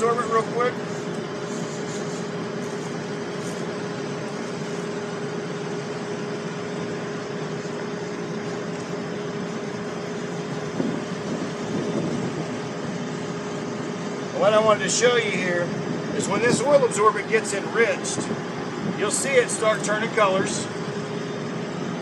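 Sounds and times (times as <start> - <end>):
ventilation equipment droning: 0.0 - 22.0.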